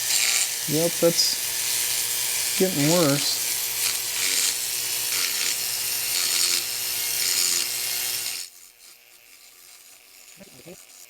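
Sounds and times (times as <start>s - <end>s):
rotary tool grinding metal wheel: 0.0s - 11.0s.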